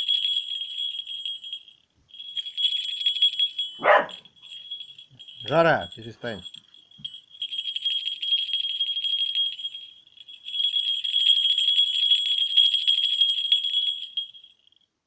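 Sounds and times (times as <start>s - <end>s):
small bells jingling: 0.0s - 15.0s.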